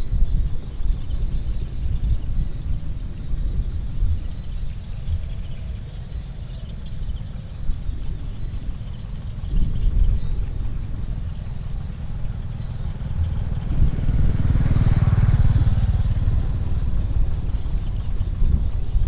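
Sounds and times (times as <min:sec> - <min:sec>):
wind and road noise rumble: 0:00.0 - 0:19.0
vehicle engine passing by: 0:01.3 - 0:19.0.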